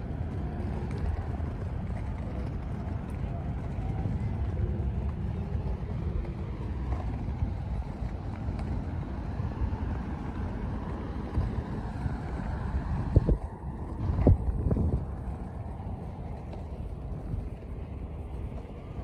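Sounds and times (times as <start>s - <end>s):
car traffic rumble: 0.0s - 19.0s
wind buffeting microphone: 0.0s - 19.0s.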